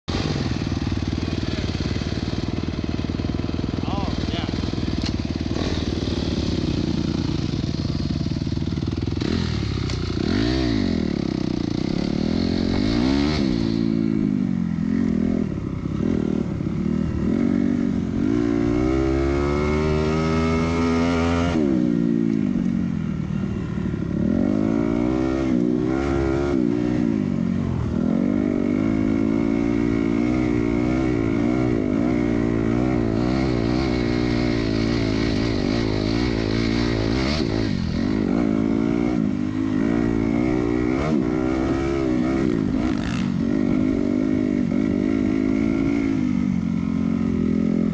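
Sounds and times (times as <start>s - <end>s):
dirt bike engine revving: 0.1s - 22.6s, 24.0s - 47.9s.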